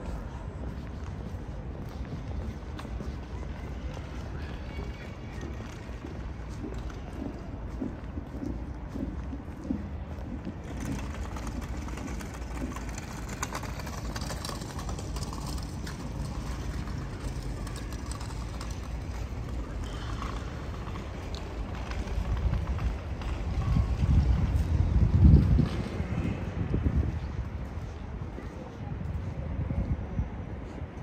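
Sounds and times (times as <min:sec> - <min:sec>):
distant traffic hum: 0:00.0 - 0:31.0.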